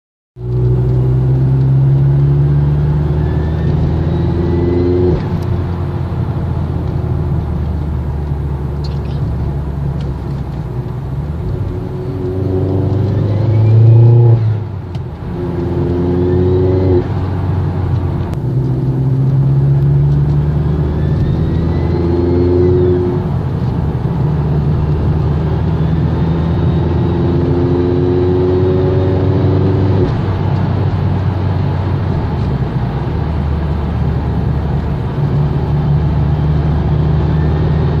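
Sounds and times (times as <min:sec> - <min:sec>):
car engine accelerating: 0:00.4 - 0:38.0.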